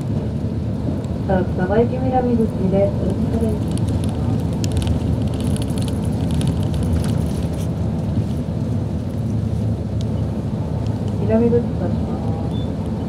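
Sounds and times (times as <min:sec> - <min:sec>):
coach engine and road noise: 0:00.0 - 0:13.0.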